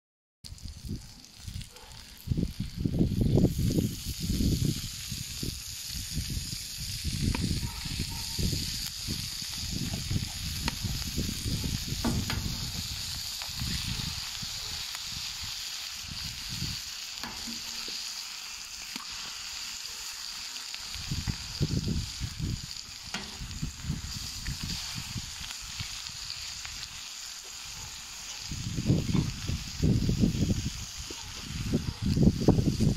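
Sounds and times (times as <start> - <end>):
food sizzling on steel plate: 0.6 - 32.9.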